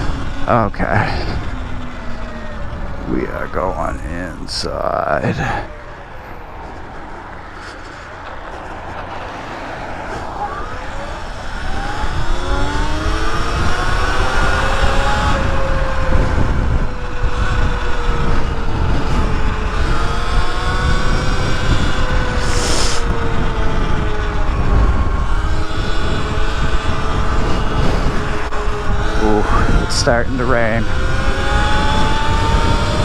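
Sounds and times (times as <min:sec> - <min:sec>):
electric motor whine: 0:00.0 - 0:33.0
wind rumble on microphone: 0:00.0 - 0:33.0.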